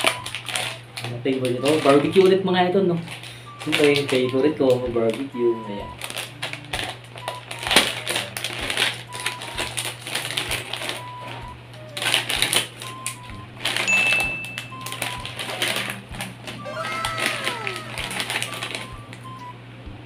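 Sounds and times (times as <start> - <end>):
scissors snipping plastic: 0.0 - 2.4, 3.0 - 5.2, 6.0 - 19.2
plastic bag crinkling: 0.0 - 19.3.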